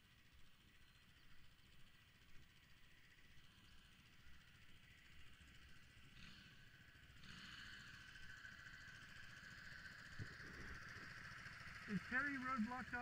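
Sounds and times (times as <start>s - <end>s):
motorcycle engine low rumble: 0.0s - 13.0s
steady higher hum: 0.0s - 13.0s.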